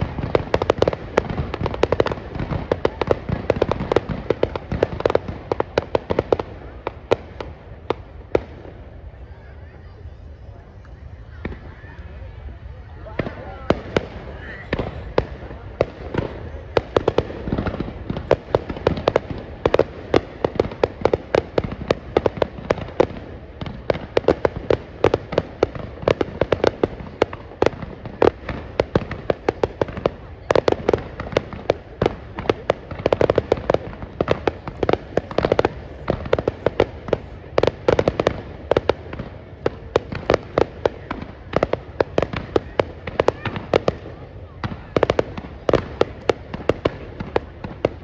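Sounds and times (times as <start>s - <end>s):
fireworks bangs and cracks: 0.0s - 48.0s.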